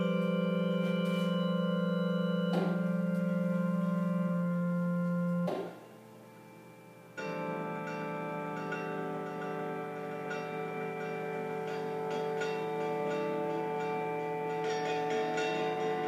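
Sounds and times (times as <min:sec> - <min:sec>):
organ chord: 0:00.0 - 0:16.0.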